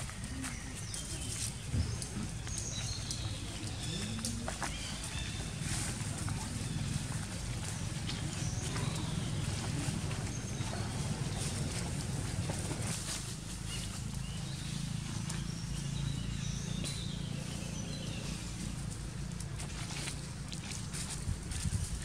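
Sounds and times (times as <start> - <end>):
macaques walking on dry leaves: 0.0 - 22.0
steady low rumble: 0.0 - 22.0.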